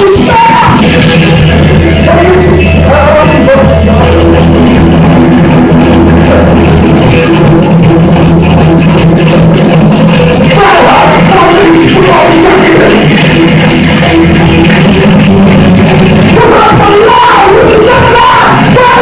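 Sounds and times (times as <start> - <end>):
bass note: 0.0 - 19.0
distorted electric guitar: 0.0 - 19.0
drums and cymbals: 0.0 - 19.0.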